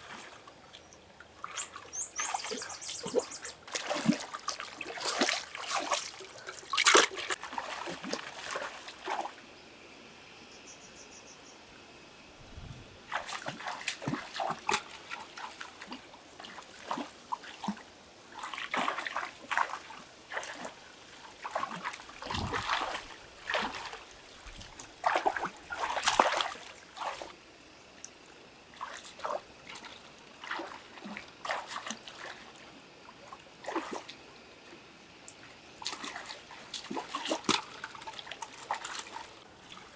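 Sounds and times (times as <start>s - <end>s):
water splashing and trickling: 0.0s - 9.4s, 12.5s - 34.4s, 35.3s - 39.9s.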